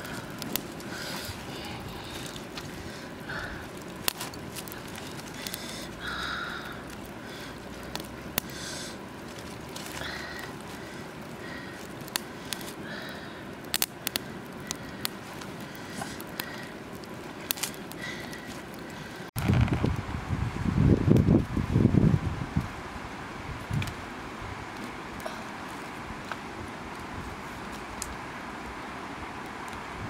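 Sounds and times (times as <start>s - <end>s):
sharp crackles and clicks: 0.0s - 20.2s, 23.6s - 24.1s, 24.7s - 28.8s.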